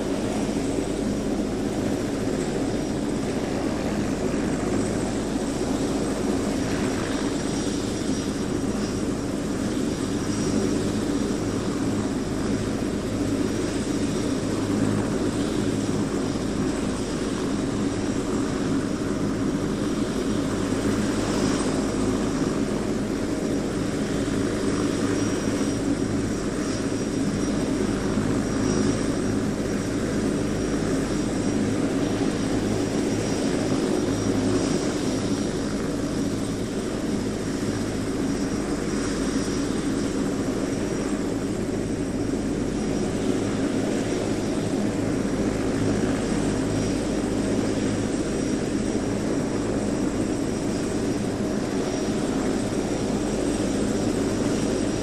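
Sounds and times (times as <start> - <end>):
helicopter engine and rotor: 0.0 - 55.0
high turbine whine: 0.0 - 55.0.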